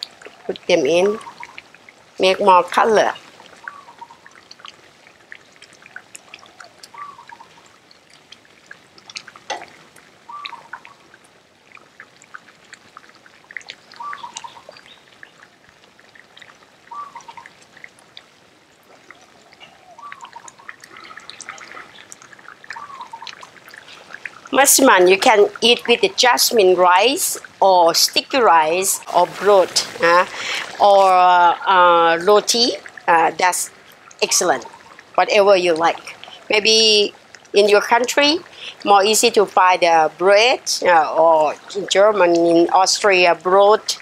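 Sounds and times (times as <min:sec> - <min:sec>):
curry bubbling and popping: 0:00.0 - 0:44.0.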